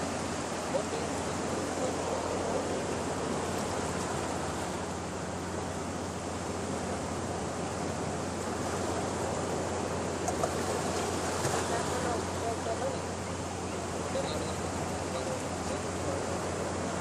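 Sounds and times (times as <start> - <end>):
waves breaking on rocks: 0.0 - 17.0.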